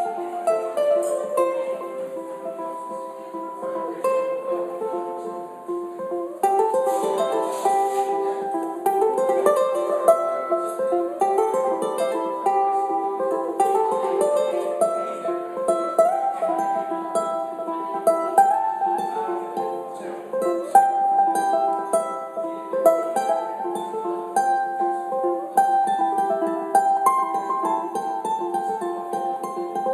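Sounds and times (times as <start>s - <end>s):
ukulele playing: 0.0s - 29.9s.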